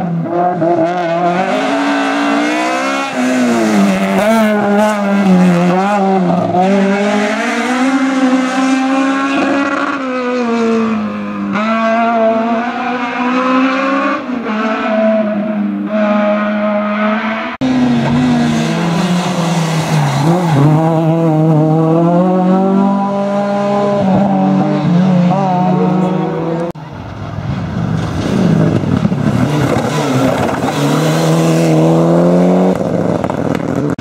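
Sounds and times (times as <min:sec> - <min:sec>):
race car engine revving: 0:00.0 - 0:26.8, 0:27.6 - 0:34.0.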